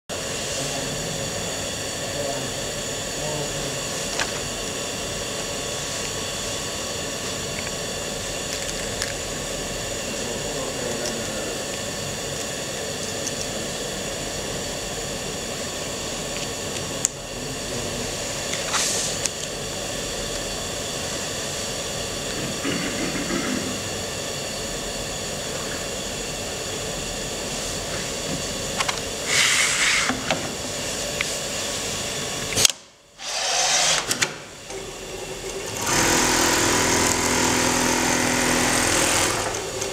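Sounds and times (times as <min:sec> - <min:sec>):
workshop hum: 0:00.1 - 0:39.9.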